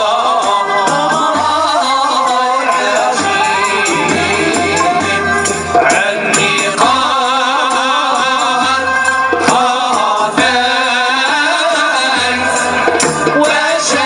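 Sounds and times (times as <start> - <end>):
group of voices singing: 0.0 - 14.0
hand percussion beat: 0.0 - 14.0.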